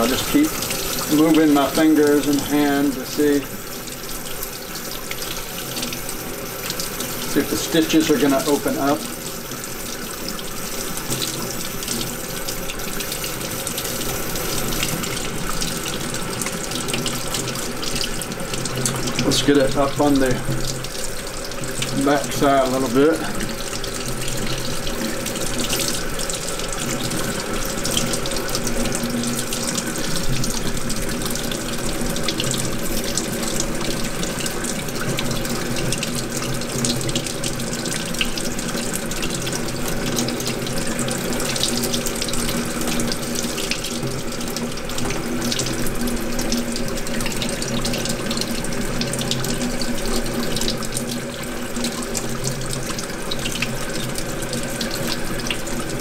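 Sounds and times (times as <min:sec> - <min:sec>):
water tap running into sink: 0:00.0 - 0:56.0.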